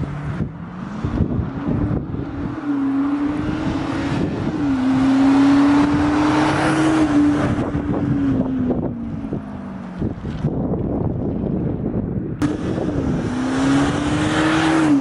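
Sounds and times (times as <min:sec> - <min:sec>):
vehicle driving noise: 0:00.0 - 0:15.0.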